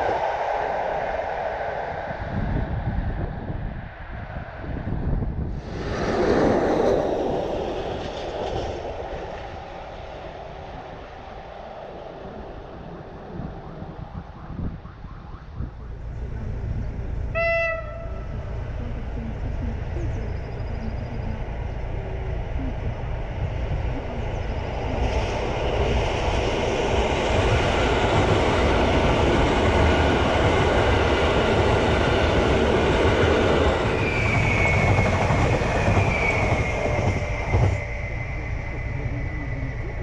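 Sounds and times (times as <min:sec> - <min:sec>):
train wheels rushing on rail: 0:05.4 - 0:40.0.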